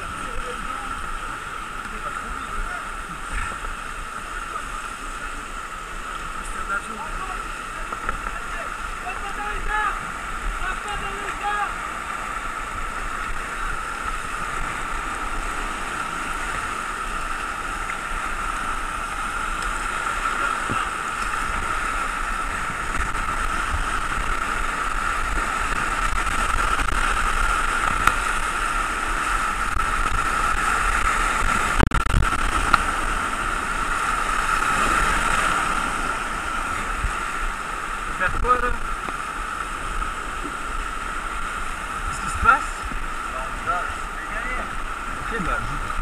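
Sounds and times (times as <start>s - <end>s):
paddle splashing: 0.0s - 46.0s
whitewater rushing: 0.0s - 46.0s.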